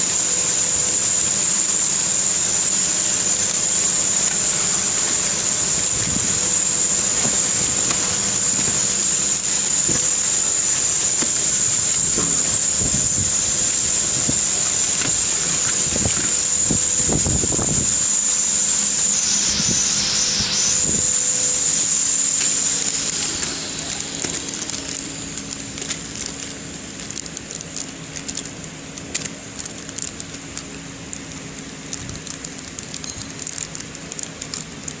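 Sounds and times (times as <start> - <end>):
wrapping machine whine and hum: 0.0 - 35.0.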